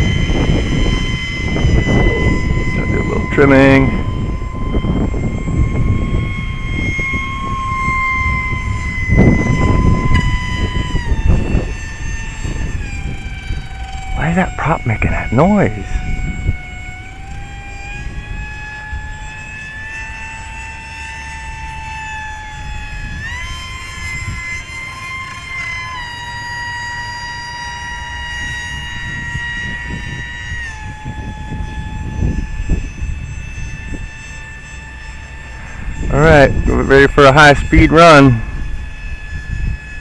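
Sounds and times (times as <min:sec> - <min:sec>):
electric motor and propeller whining: 0:00.0 - 0:40.0
wind rumble on microphone: 0:00.0 - 0:40.0.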